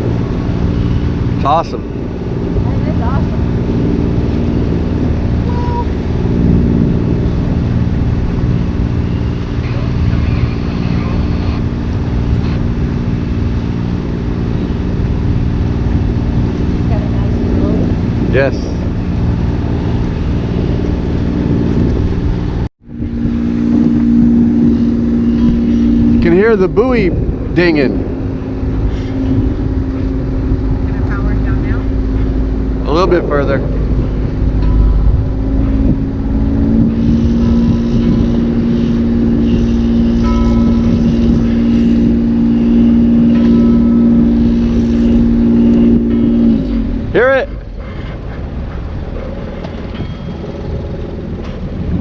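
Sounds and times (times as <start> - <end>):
bell buoy dinging: 0.0 - 52.0
boat engine humming: 0.0 - 52.0
water and motion noise: 0.0 - 52.0.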